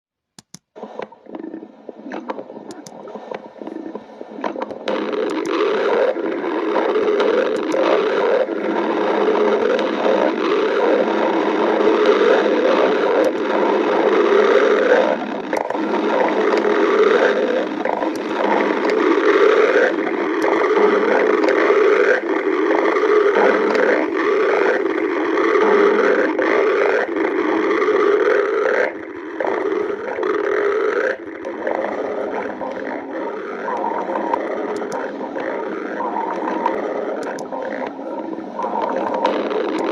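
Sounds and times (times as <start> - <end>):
stomach growling: 0.8 - 39.9.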